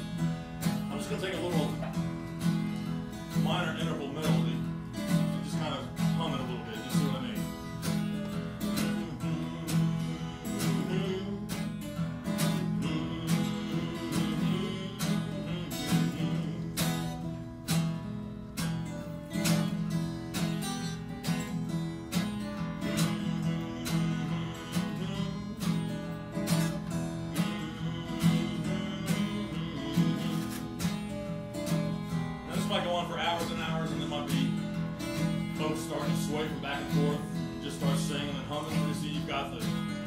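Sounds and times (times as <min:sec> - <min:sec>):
acoustic guitar strumming blues: 0:00.0 - 0:40.0.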